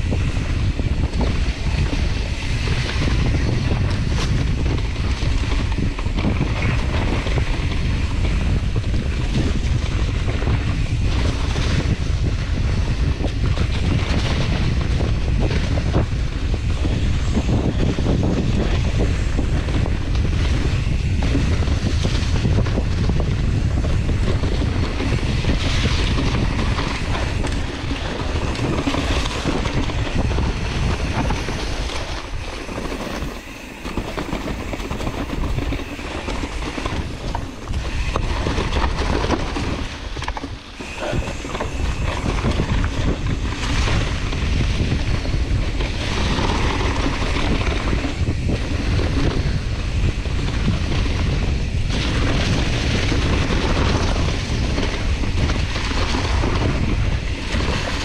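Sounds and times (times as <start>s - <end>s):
bike tyres rolling over leaves: 0.0s - 58.0s
wind rushing on microphone: 0.0s - 58.0s.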